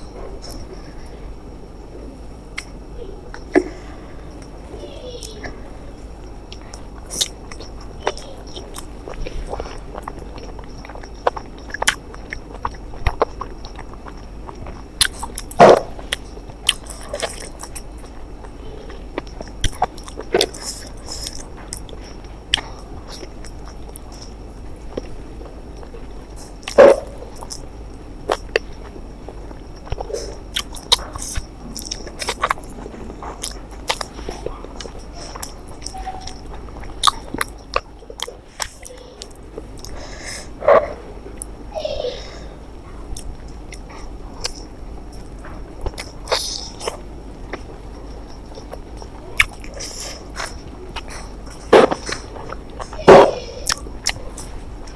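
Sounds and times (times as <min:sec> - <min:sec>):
faint high whine: 0:00.0 - 0:54.9
person chewing food: 0:02.4 - 0:41.7, 0:42.3 - 0:54.9
wet mouth noises: 0:02.5 - 0:04.6, 0:06.5 - 0:41.6, 0:43.1 - 0:54.6.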